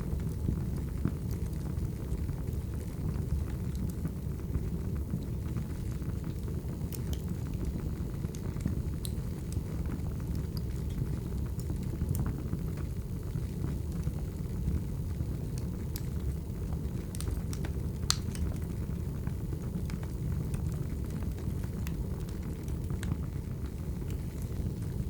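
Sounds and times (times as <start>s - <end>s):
firewood burning and crackling: 0.0s - 25.0s.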